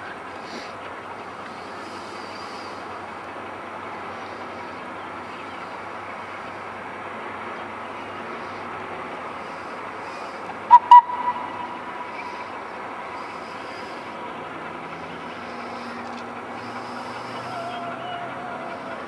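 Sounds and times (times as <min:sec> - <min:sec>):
steam locomotive running on track: 0:00.0 - 0:19.0.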